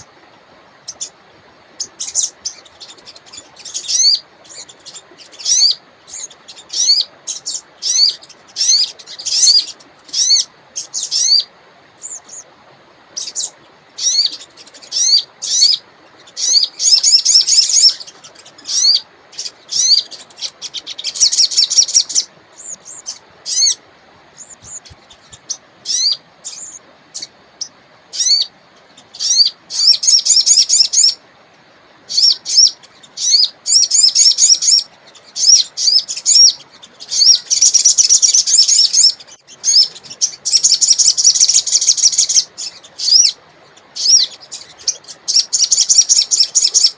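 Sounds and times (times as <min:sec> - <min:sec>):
faint river rush: 0:00.0 - 0:46.9
songbird chirping and trilling: 0:00.0 - 0:46.9.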